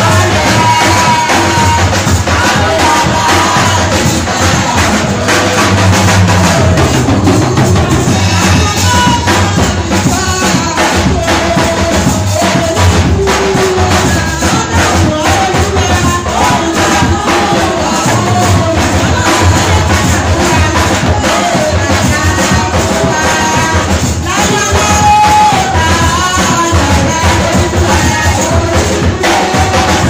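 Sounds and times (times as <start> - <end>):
percussion steady beat: 0.0 - 30.0
voices singing praise music: 0.0 - 30.0.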